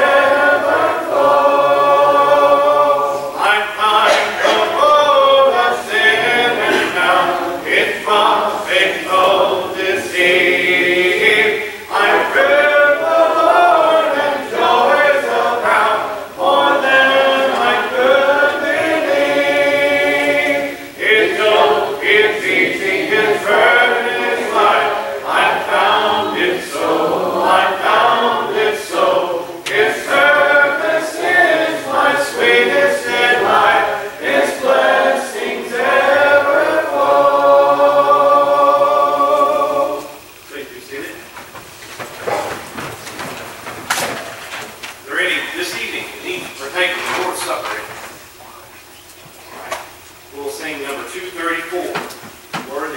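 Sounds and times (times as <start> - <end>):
congregation singing a hymn: 0.0 - 48.4, 49.8 - 52.9.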